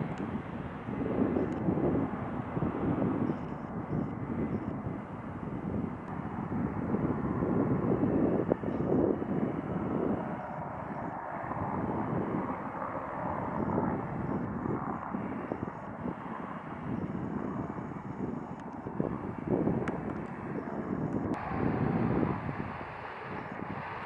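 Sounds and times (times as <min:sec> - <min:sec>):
distant jet engines rumbling: 0:00.0 - 0:24.0.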